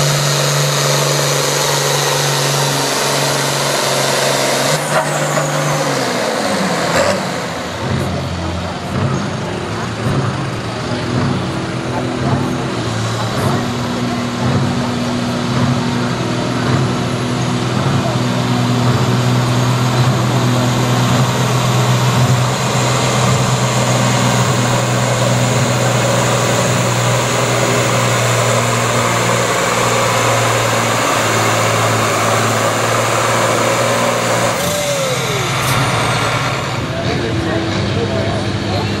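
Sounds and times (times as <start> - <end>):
diesel tractor engine running hard: 0.0 - 39.0.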